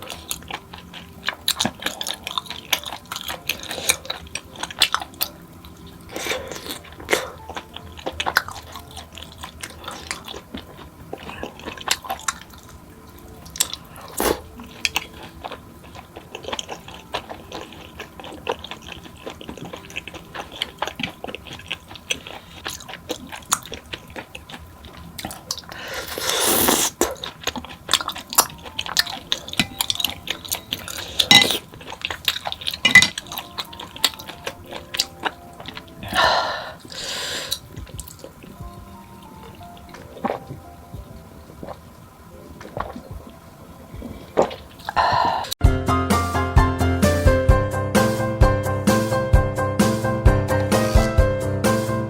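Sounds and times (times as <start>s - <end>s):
wet chewing: 0.0s - 45.6s
soft background music: 0.0s - 52.0s.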